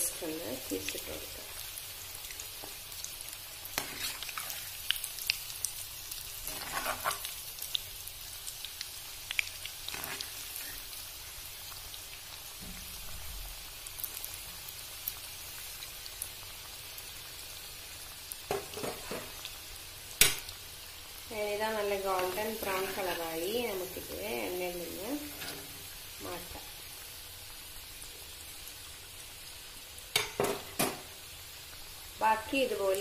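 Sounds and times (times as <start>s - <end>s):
food deep-frying in oil: 0.0s - 33.0s.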